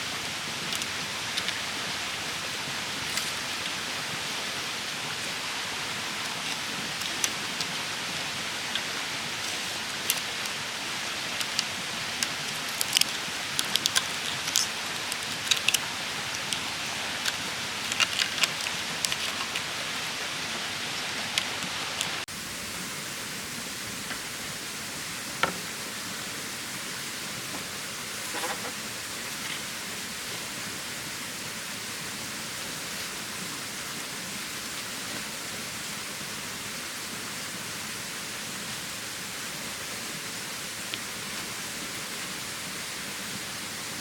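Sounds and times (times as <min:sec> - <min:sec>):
outdoor noise hiss: 0:00.0 - 0:44.0.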